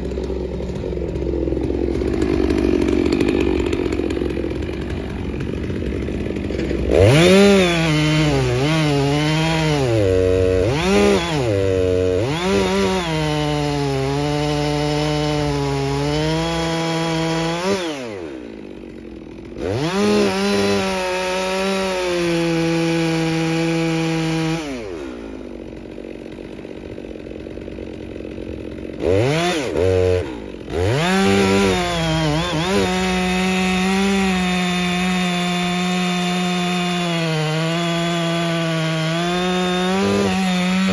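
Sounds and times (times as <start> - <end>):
chainsaw cutting log: 0.0 - 40.9
chainsaw idling: 0.0 - 40.9
chainsaw throttle blips: 0.0 - 40.9.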